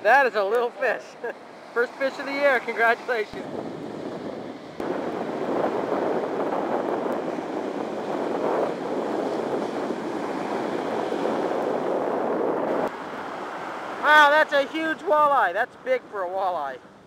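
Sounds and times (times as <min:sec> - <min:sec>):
ocean surf breaking: 0:00.0 - 0:15.3.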